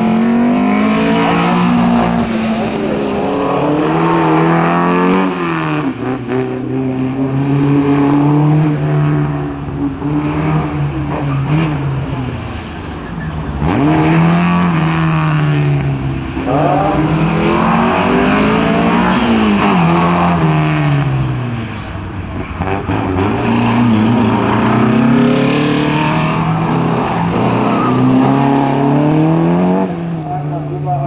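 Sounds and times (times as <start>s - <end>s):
car engine at hard throttle: 0.0s - 31.0s.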